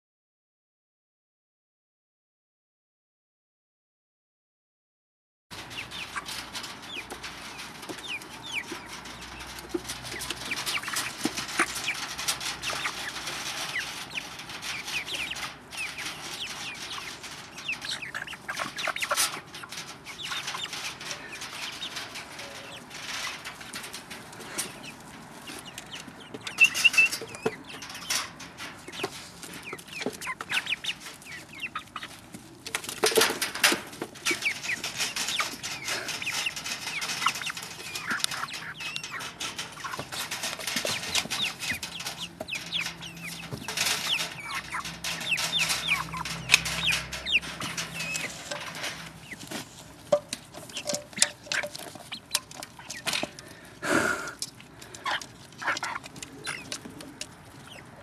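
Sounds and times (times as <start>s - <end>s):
chickens clucking: 5.5s - 58.0s.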